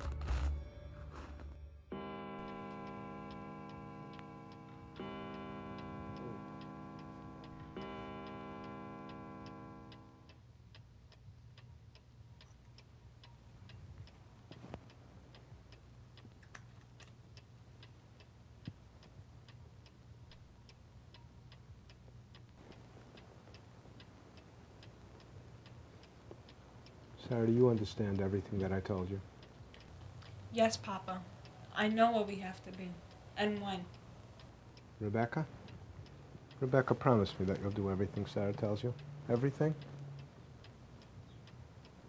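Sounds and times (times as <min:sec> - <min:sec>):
clock ticking: 0:01.9 - 0:42.0.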